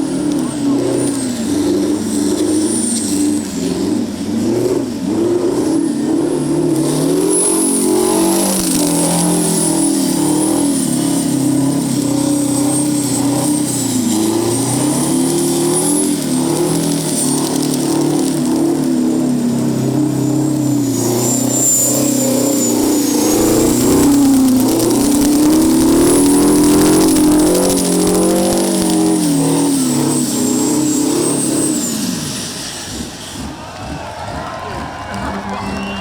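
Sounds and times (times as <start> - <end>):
thin high whine: 0.0 - 33.7
diesel engine revving hard: 0.0 - 36.0.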